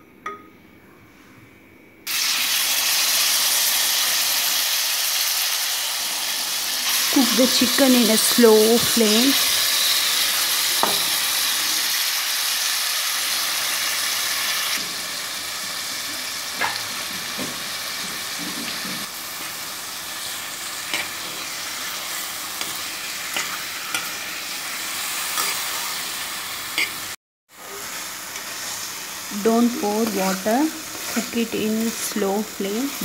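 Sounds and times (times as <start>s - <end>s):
chicken sizzling in a pan: 2.1s - 33.0s.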